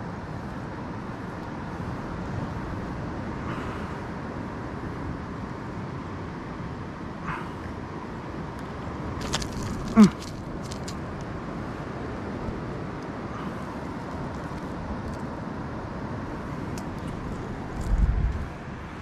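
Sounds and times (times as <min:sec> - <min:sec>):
surf and wind: 0:00.0 - 0:19.0.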